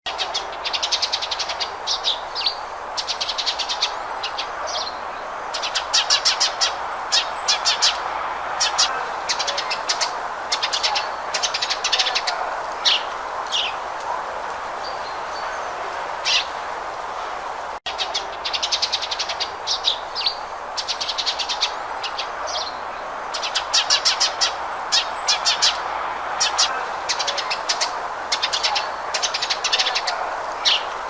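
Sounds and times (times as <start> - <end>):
steady background noise: 0.1 - 31.0.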